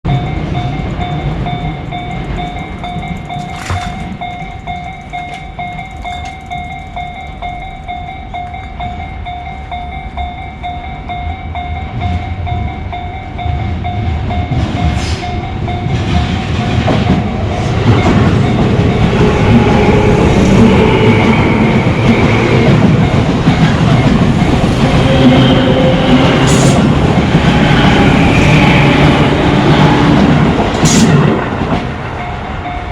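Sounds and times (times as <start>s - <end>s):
train wheels clattering over rails: 0.1s - 9.0s, 13.8s - 32.9s
level crossing bell dinging: 0.1s - 27.9s
electric train passing: 0.1s - 32.9s.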